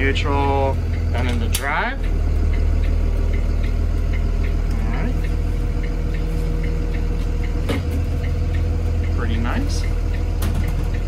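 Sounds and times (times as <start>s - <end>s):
bus diesel engine idling: 0.0s - 11.0s
light ticking: 0.0s - 11.0s.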